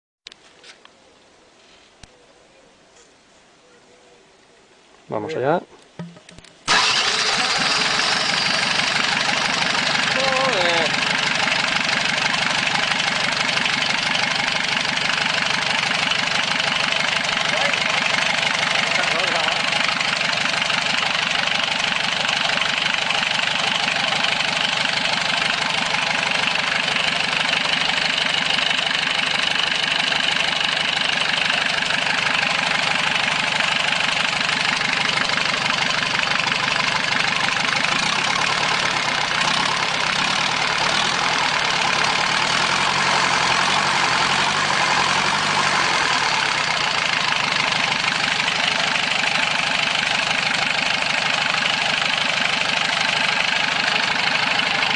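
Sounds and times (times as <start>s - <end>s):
vehicle engine idling: 6.0s - 54.9s.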